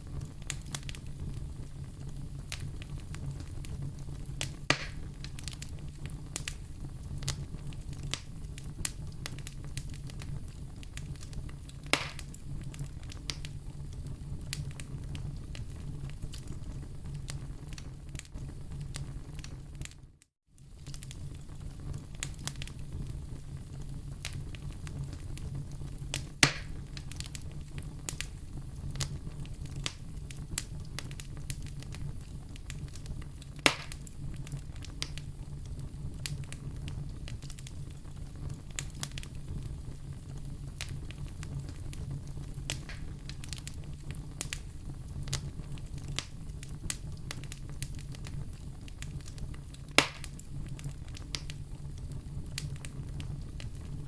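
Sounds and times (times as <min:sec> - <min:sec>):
loud fire pops: 0:00.0 - 0:20.0, 0:20.6 - 0:54.0
fireplace fire crackling: 0:00.0 - 0:54.0.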